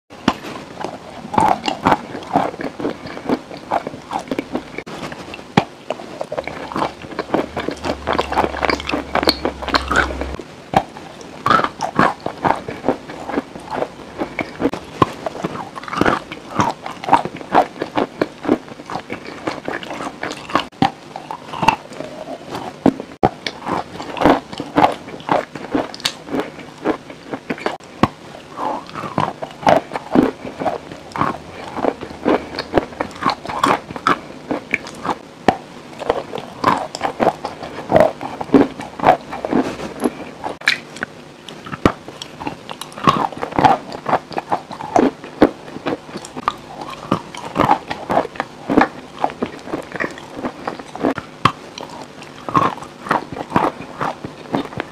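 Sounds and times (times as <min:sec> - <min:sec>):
person chewing crunchy food: 0:00.2 - 0:54.9.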